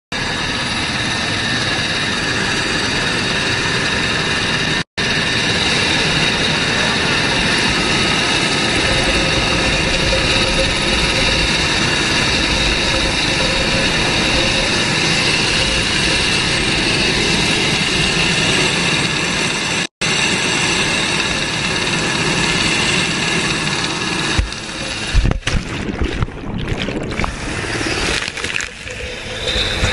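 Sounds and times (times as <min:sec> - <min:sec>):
helicopter turbine whine: 0:00.1 - 0:29.9
rotor and wind rush: 0:00.1 - 0:29.9.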